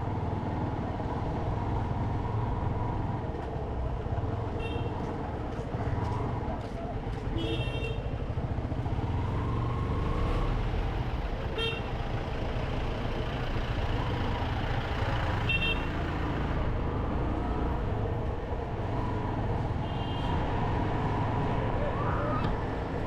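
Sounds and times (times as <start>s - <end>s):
motorcycle running and road noise: 0.0s - 23.0s.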